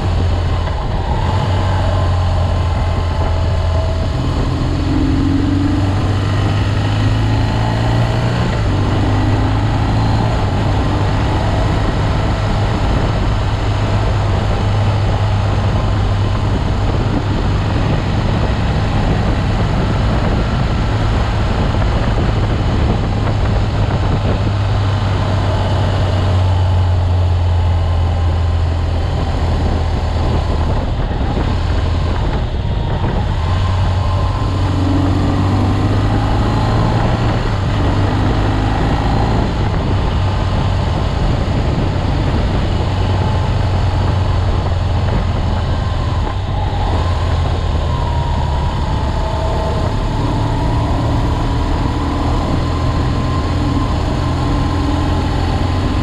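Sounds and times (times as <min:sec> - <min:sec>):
motorcycle engine droning: 0:00.0 - 0:56.0
wind rushing: 0:00.0 - 0:56.0.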